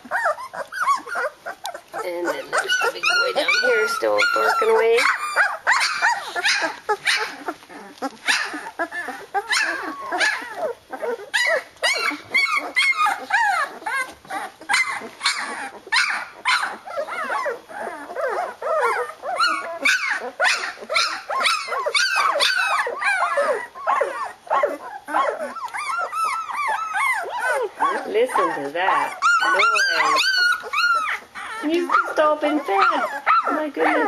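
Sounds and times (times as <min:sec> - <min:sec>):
puppies crying and yelping: 0:00.0 - 0:34.0.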